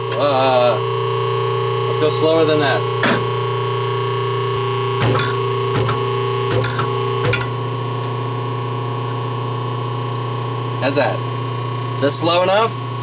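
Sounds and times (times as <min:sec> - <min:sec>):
lathe motor and gear hum: 0:00.0 - 0:13.0.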